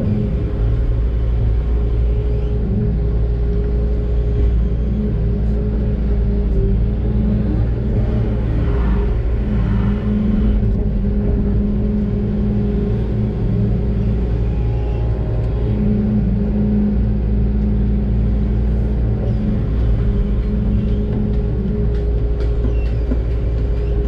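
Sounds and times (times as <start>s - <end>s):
excavator diesel engine rumble: 0.0s - 24.0s.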